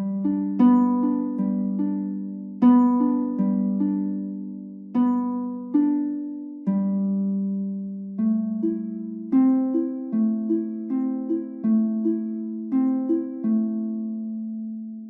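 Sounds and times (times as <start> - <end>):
plucked ringing notes: 0.0 - 15.0.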